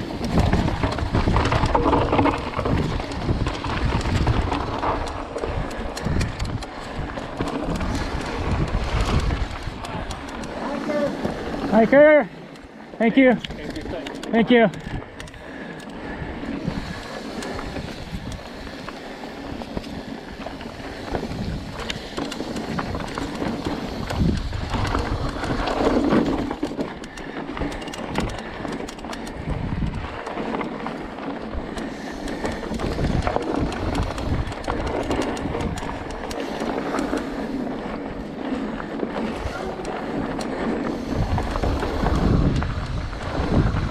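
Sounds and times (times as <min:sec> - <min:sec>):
wind rumbling on microphone: 0:00.0 - 0:12.3, 0:13.2 - 0:43.9
bike clattering over bumps: 0:00.0 - 0:43.9
tyres crunching over dirt and stones: 0:00.0 - 0:43.9.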